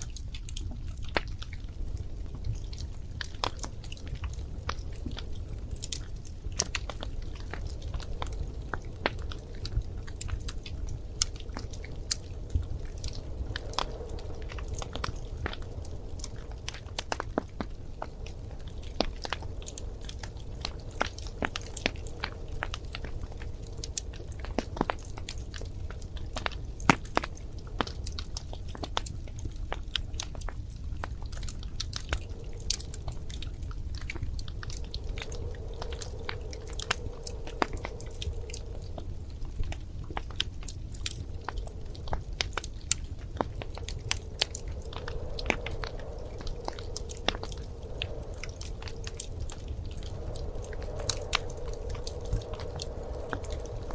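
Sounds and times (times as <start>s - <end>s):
faint whistle of burning wood: 0.0s - 53.9s
low fire rumble: 0.0s - 53.9s
wood fire crackling: 0.0s - 53.9s.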